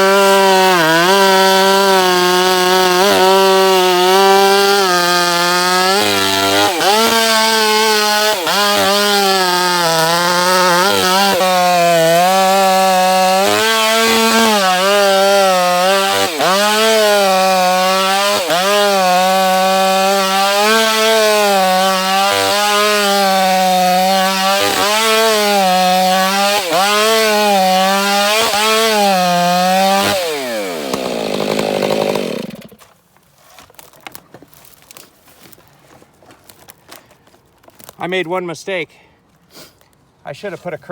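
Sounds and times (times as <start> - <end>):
chainsaw cutting timber: 0.0 - 33.0.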